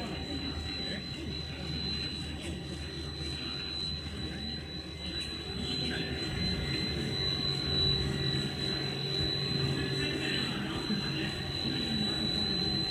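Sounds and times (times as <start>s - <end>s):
constant high whine: 0.0s - 12.9s
machine humming: 0.0s - 12.9s.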